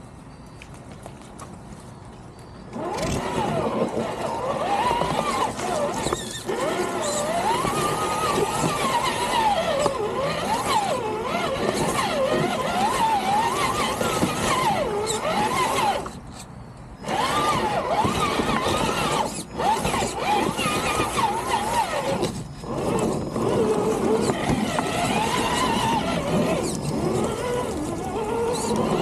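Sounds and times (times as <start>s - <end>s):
electric motor and gears whining: 2.6s - 29.0s.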